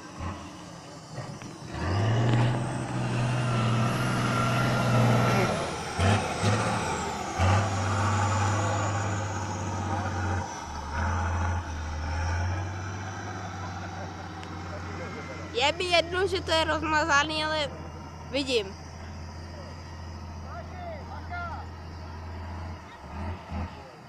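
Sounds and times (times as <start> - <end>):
truck diesel engine revving: 0.0 - 24.0.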